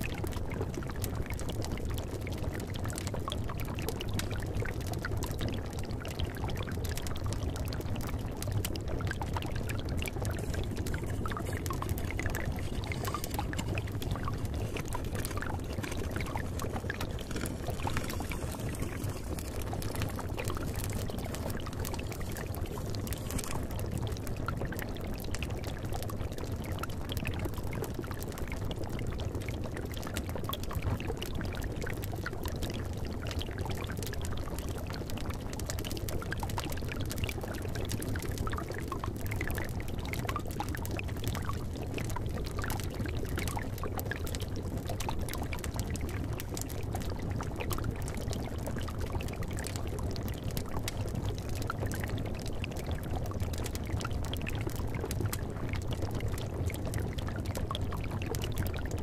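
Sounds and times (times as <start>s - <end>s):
liquid bubbling in cauldron: 0.0s - 59.0s
fire popping and crackling: 0.1s - 59.0s.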